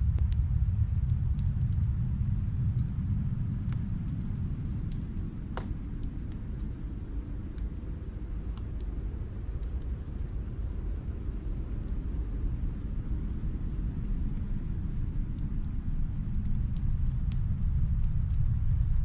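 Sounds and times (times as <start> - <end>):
fire pops and crackles: 0.0 - 19.0
low fire rumble: 0.0 - 19.0.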